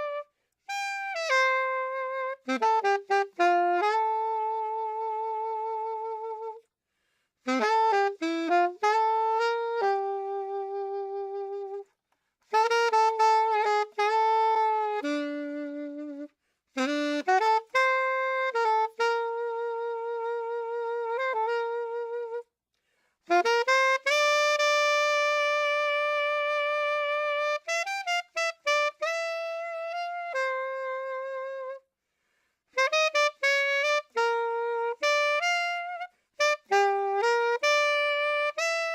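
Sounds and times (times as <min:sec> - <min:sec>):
solo unaccompanied melody: 0:00.0 - 0:06.7, 0:07.4 - 0:11.9, 0:12.5 - 0:22.5, 0:23.3 - 0:31.8, 0:32.8 - 0:38.9.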